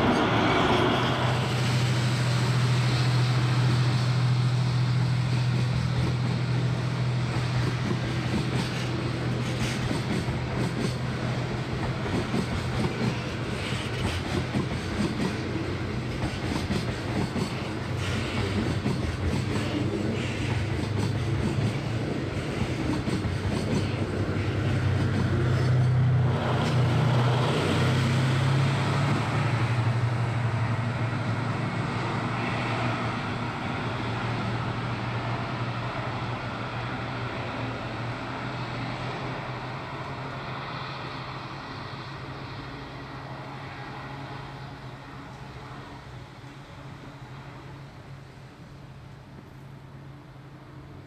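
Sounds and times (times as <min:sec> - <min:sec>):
train wheels rumbling and clattering: 0:00.0 - 0:42.0.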